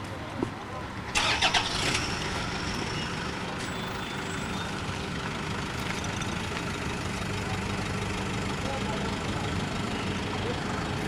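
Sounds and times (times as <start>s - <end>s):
car engine idling: 1.1s - 11.0s.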